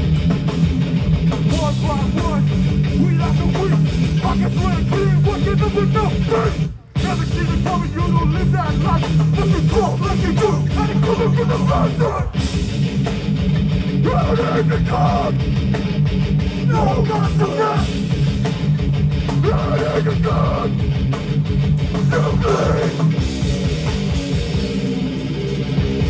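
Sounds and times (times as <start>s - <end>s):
electric guitar riffs: 0.0s - 26.0s
heavy band playing live: 0.0s - 26.0s.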